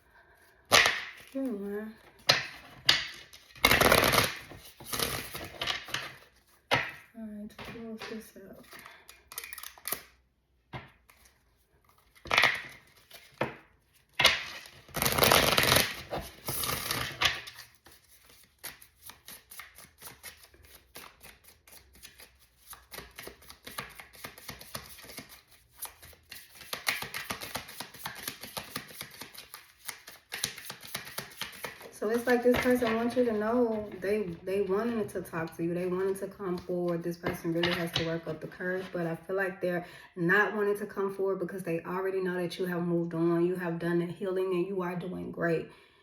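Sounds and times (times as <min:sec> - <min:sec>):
cards being shuffled: 0:00.7 - 0:07.0, 0:07.6 - 0:10.2, 0:10.8 - 0:38.9.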